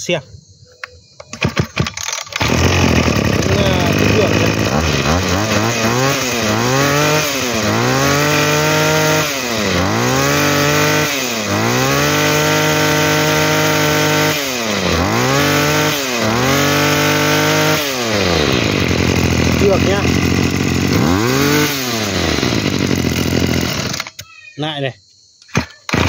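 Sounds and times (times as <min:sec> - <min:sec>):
brush cutter engine revving: 0:01.3 - 0:24.2, 0:25.6 - 0:26.0.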